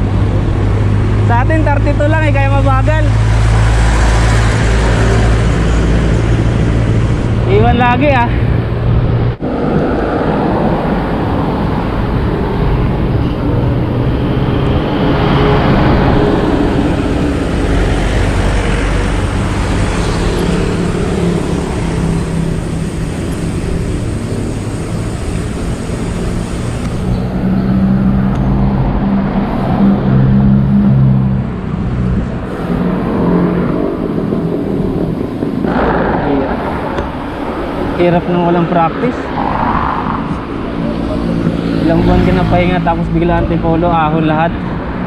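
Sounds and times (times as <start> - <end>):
low engine hum: 0.0 - 45.0
road traffic: 0.0 - 45.0.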